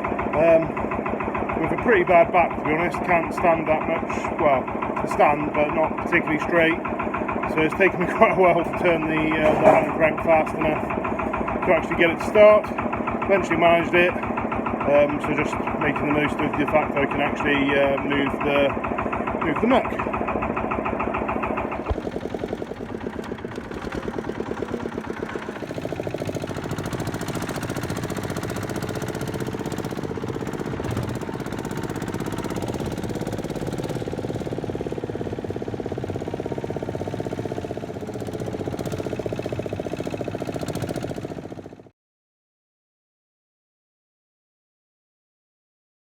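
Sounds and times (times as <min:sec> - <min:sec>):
dumper truck engine running: 0:00.0 - 0:41.9.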